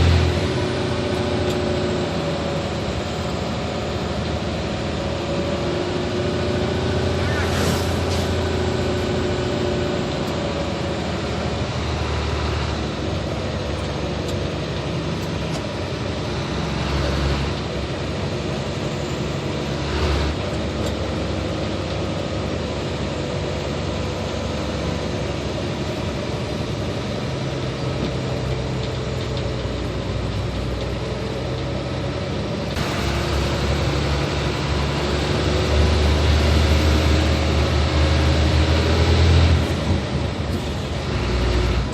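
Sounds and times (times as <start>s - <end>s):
road noise: 0.0s - 41.9s
truck diesel engine running: 0.0s - 41.9s.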